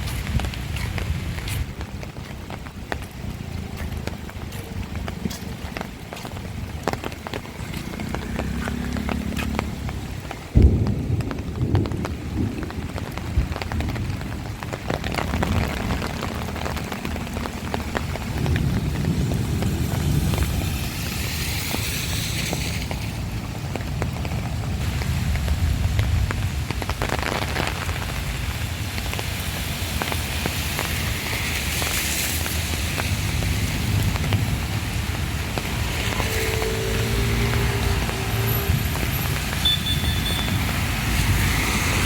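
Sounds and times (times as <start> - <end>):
heavy rain pelting: 0.0 - 42.0.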